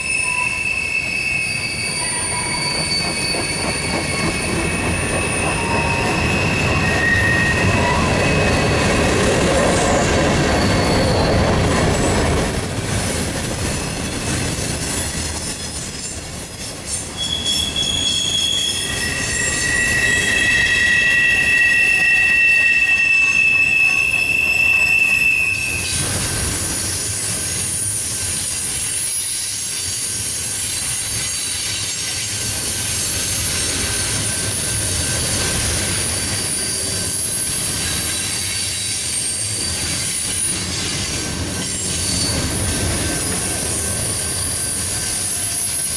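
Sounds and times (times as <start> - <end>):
low rumble of wheels on rail: 0.0 - 45.9
train wheels squealing on curve: 0.0 - 45.9.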